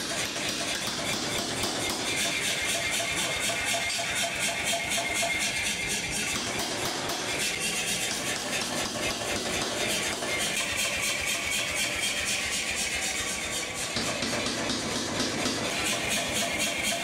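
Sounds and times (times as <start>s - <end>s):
machine running noise: 0.0s - 17.0s
power hammer striking steel: 0.0s - 17.0s.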